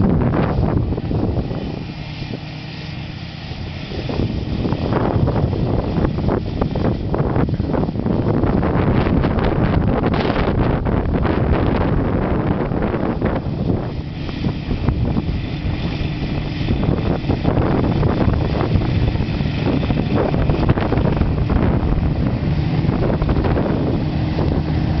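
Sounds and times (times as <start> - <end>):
lawn mower engine running: 0.0 - 25.0
wind buffeting microphone: 0.0 - 25.0.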